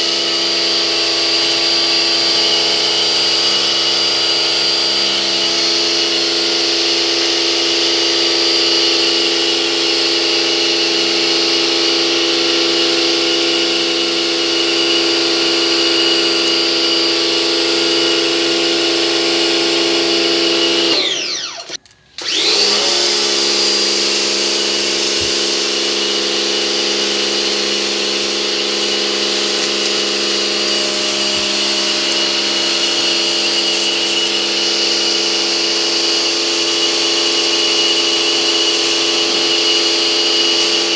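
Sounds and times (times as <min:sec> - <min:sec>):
pressure washer whining and hissing: 0:00.0 - 0:40.9.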